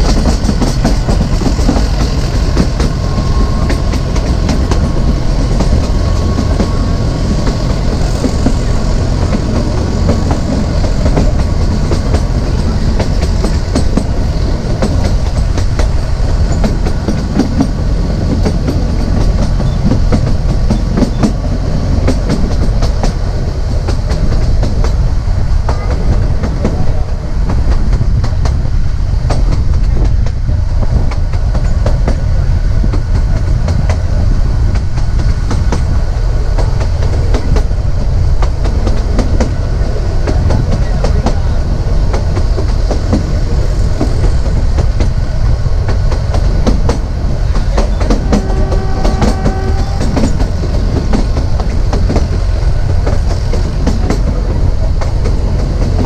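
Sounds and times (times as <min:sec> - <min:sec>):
train wheels rumbling: 0:00.0 - 0:56.0
wheels clicking over rail joints: 0:00.0 - 0:56.0.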